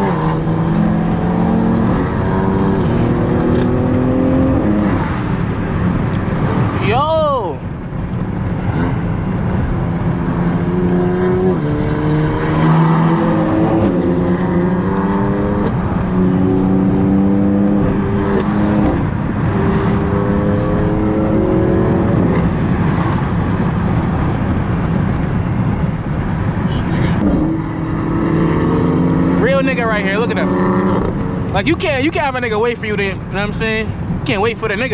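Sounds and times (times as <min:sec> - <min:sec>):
car engine rumbling under load: 0:00.0 - 0:34.9.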